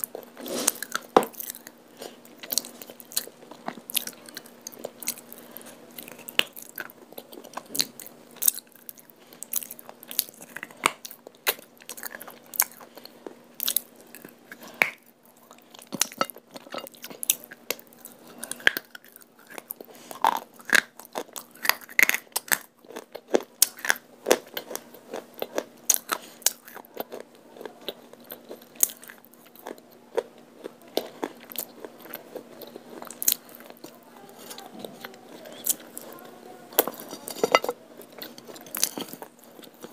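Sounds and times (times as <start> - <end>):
person chewing crunchy pieces: 0.0 - 39.9.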